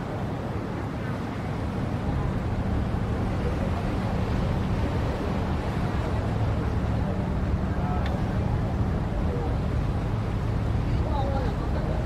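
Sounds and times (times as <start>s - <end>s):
boat engine drone: 0.0s - 12.0s
wind and water rushing: 0.0s - 12.0s.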